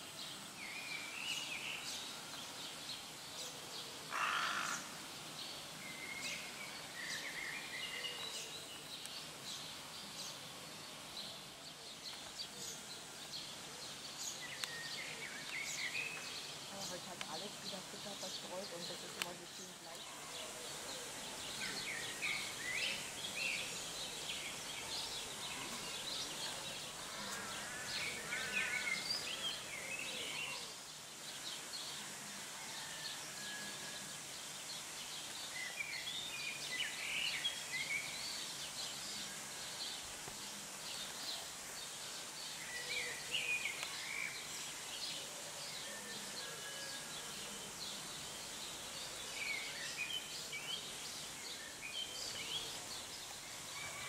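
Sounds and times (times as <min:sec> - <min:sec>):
small songbirds chirping: 0:00.0 - 0:33.3, 0:34.0 - 0:54.0
faint open air background noise: 0:00.0 - 0:54.0.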